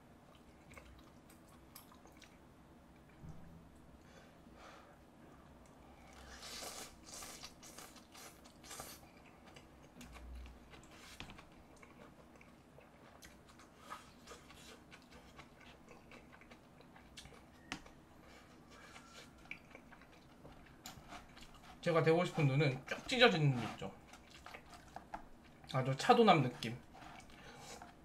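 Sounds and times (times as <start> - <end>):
faint chewing sounds: 0.0 - 28.0.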